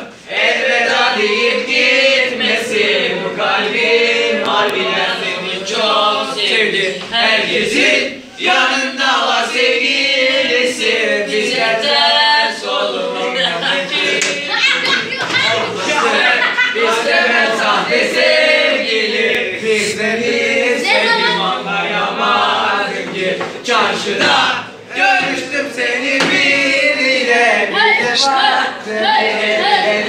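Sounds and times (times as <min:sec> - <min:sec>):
boys singing unaccompanied: 0:00.0 - 0:30.0.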